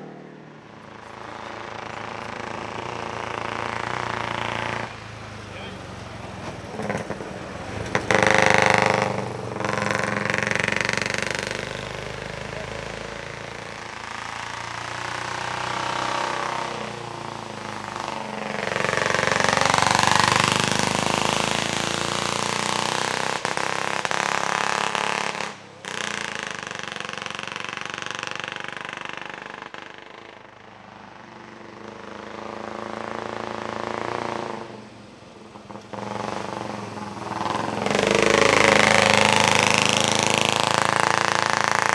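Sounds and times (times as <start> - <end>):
racing car engines passing: 0.0 - 41.9.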